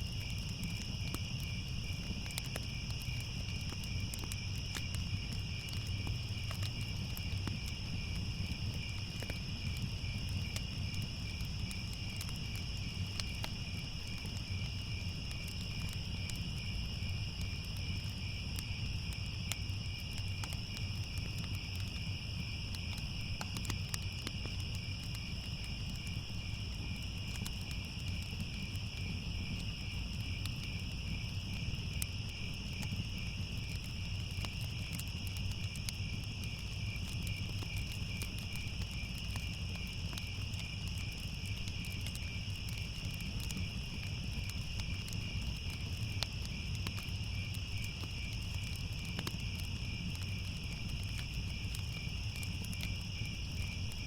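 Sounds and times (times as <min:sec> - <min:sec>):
crickets chirping: 0:00.0 - 0:54.0
wood fire crackling: 0:00.0 - 0:54.0.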